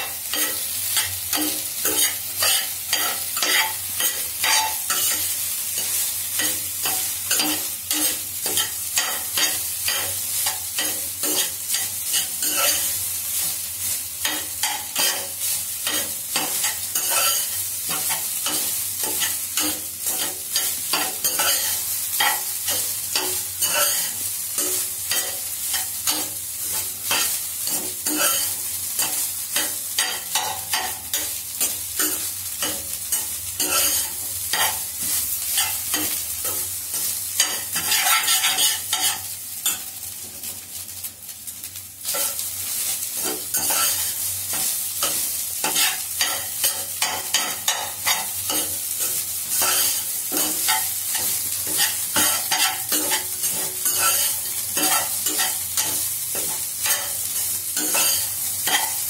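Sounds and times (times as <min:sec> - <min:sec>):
spatula scraping and stirring rice: 0:00.0 - 0:39.9, 0:41.6 - 0:59.0
sizzling in hot pan: 0:00.0 - 0:59.0.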